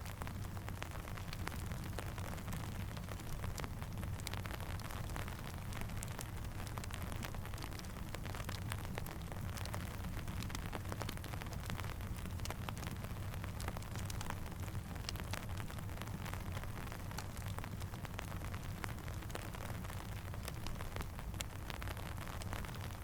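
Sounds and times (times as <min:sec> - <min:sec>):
campfire crackling: 0:00.0 - 0:23.0
rain falling: 0:00.0 - 0:23.0.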